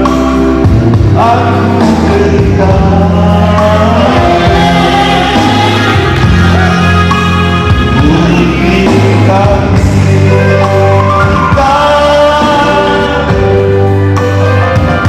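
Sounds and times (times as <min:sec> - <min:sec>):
backing music with bass: 0:00.0 - 0:15.0
man singing into a microphone: 0:01.0 - 0:13.8.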